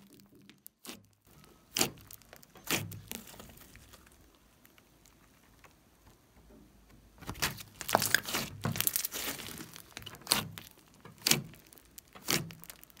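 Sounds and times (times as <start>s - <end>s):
slime crackling and squelching: 0.0s - 6.2s, 7.1s - 13.0s.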